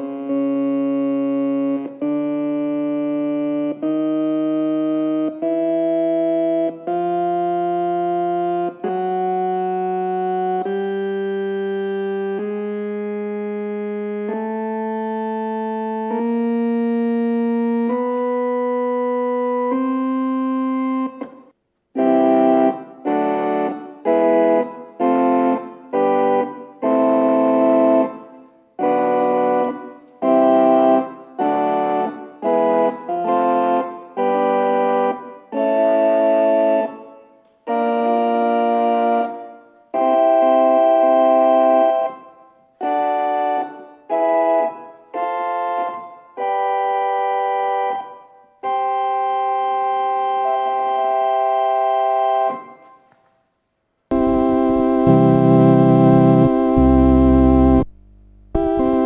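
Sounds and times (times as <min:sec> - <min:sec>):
electronic organ notes and chords: 0:00.0 - 0:53.2, 0:54.1 - 0:59.0.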